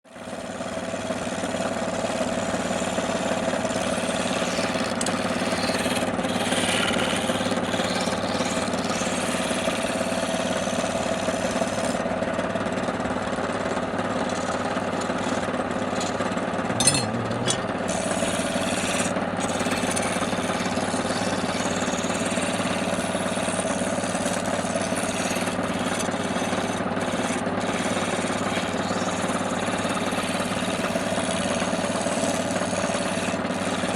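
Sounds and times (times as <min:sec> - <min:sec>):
wood lathe running: 0:00.1 - 0:33.9
turning tool scraping wood: 0:00.4 - 0:12.1, 0:13.6 - 0:33.9.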